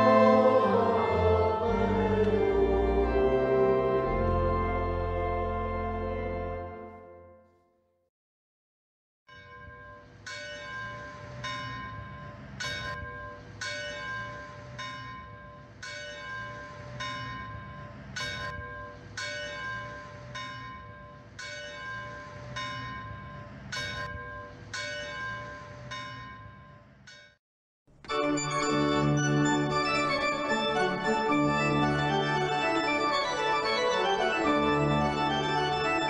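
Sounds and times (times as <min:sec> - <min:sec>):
church bells ringing: 0:00.0 - 0:07.2, 0:09.3 - 0:27.4, 0:28.1 - 0:36.0.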